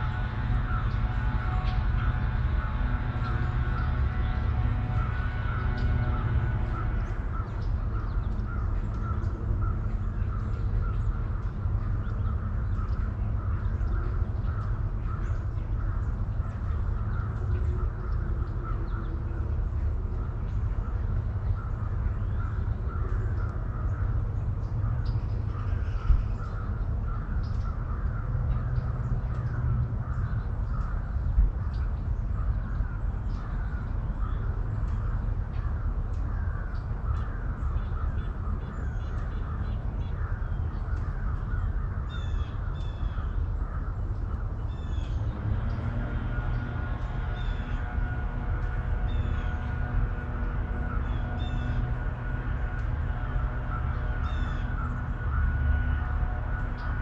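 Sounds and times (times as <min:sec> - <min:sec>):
birds calling: 0:00.0 - 0:57.0
steady low rumble: 0:00.0 - 0:57.0.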